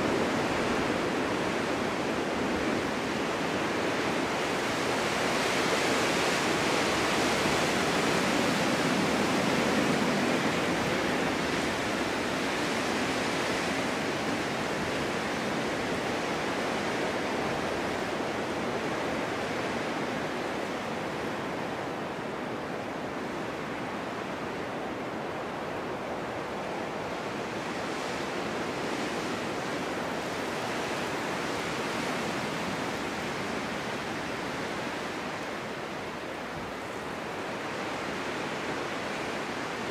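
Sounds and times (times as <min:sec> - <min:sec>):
storm wind blowing snow: 0:00.0 - 0:39.9.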